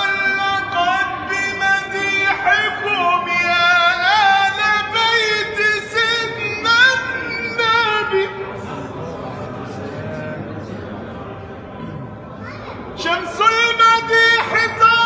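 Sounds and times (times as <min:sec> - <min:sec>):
man singing religious praise: 0:00.0 - 0:10.5, 0:13.0 - 0:15.0.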